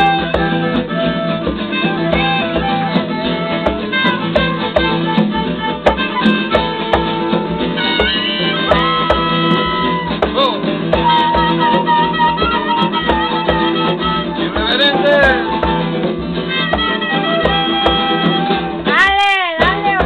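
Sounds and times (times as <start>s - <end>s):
flute melody: 0.0s - 19.8s
drum beat: 0.0s - 20.0s
strummed acoustic guitar: 0.0s - 20.0s.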